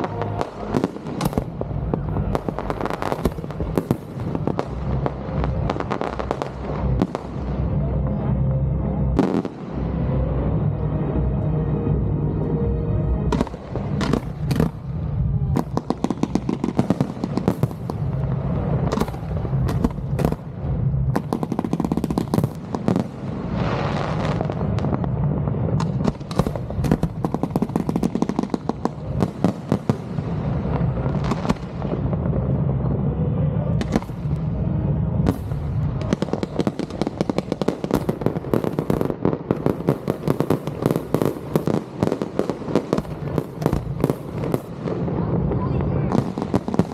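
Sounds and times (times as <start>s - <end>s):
fireworks bangs and crackling: 0.0s - 10.8s, 13.3s - 46.9s.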